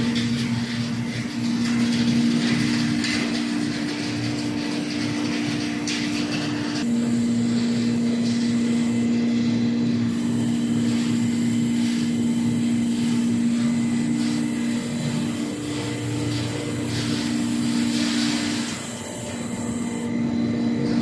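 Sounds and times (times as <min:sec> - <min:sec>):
hydraulic machine hum: 0:00.0 - 0:21.0.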